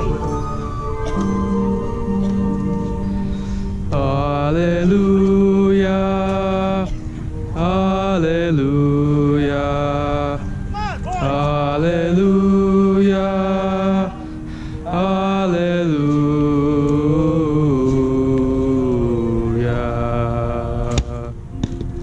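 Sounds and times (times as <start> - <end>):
marching band sustained notes: 0.0 - 22.0.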